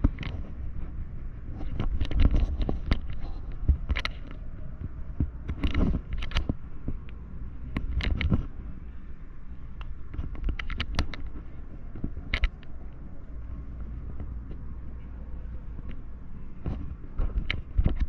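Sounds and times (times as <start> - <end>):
sharp clicks and knocks: 0.0 - 0.6, 1.5 - 8.6, 9.7 - 18.0
traffic rumble: 0.0 - 18.0.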